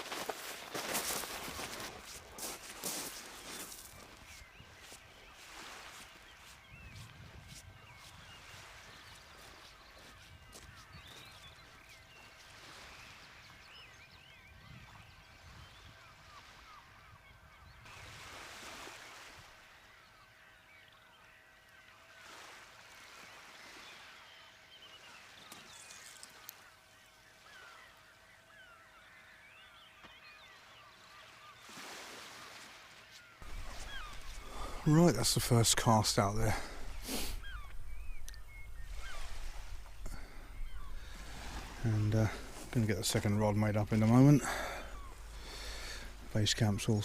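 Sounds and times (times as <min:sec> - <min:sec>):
faint dawn bird chorus: 0:00.0 - 0:47.0.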